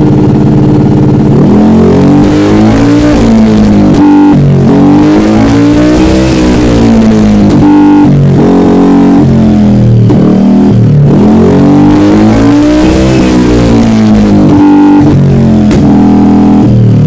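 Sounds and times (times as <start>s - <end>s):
scooter engine revving: 0.0s - 17.0s.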